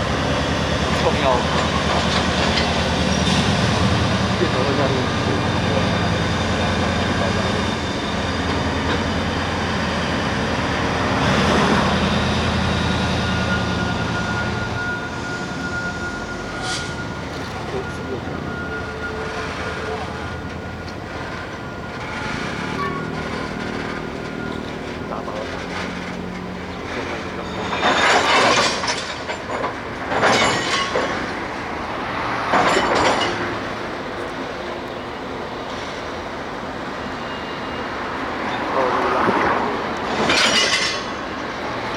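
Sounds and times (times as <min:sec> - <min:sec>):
locomotive humming: 0:00.0 - 0:41.9
loud wheel-on-rail surges: 0:00.0 - 0:41.9
train wheels rolling on rails: 0:00.0 - 0:41.9.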